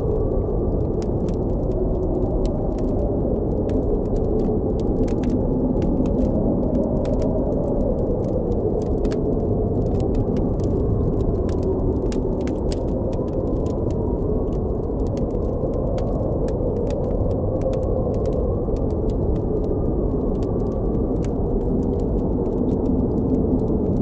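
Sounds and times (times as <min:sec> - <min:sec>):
campfire crackling and popping: 0:00.0 - 0:24.0
strong wind blowing: 0:00.0 - 0:24.0.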